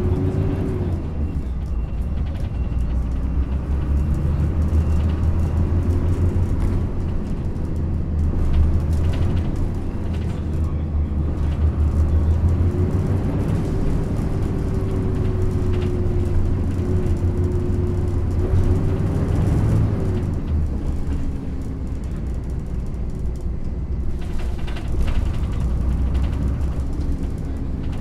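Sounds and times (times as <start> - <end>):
bus body rattling: 0.0 - 28.0
bus engine drone: 0.0 - 28.0.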